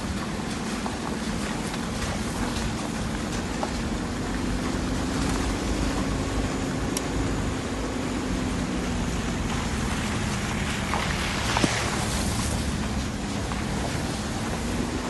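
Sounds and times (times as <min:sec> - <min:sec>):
tyre noise on rough road: 0:00.0 - 0:15.0
vehicle engine hum: 0:00.0 - 0:15.0
wind noise: 0:00.0 - 0:15.0.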